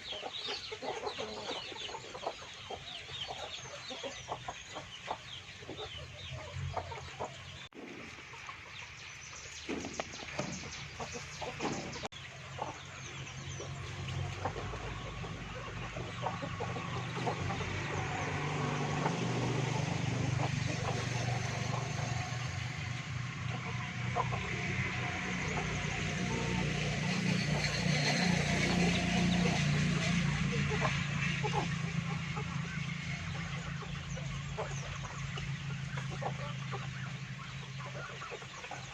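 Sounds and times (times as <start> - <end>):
chickens clucking: 0.0 - 38.9
low motor hum: 5.3 - 38.9.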